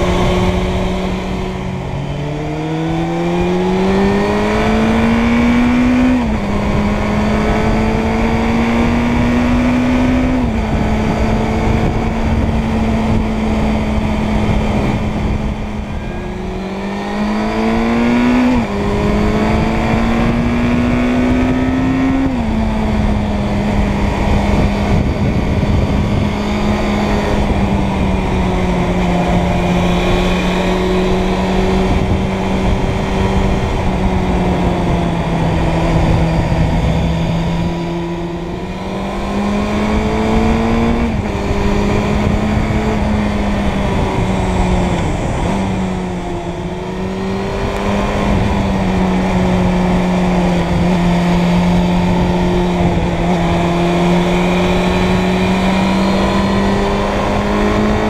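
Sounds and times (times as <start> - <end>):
motorcycle engine accelerating: 0.0 - 58.0
wind noise on microphone: 0.0 - 58.0.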